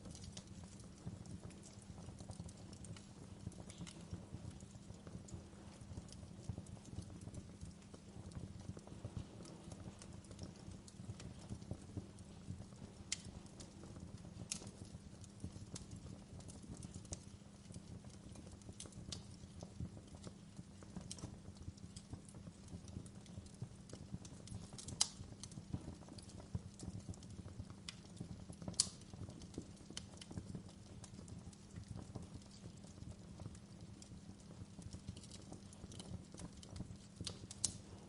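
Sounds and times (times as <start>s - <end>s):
low rumble of burning: 0.0s - 38.0s
sharp snaps and pops: 0.0s - 38.0s
wood fire crackling: 0.0s - 38.0s.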